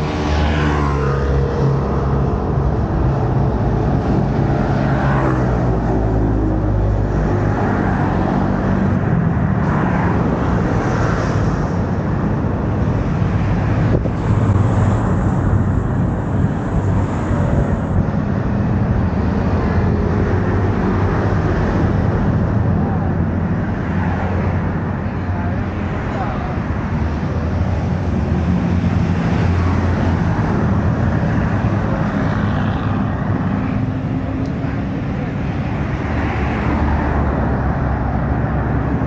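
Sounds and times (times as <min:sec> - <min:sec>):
bus and cars driving past: 0:00.0 - 0:39.0.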